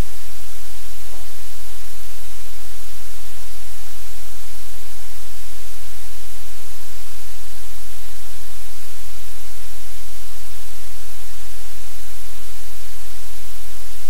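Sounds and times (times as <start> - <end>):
loud static hiss: 0.0 - 14.0.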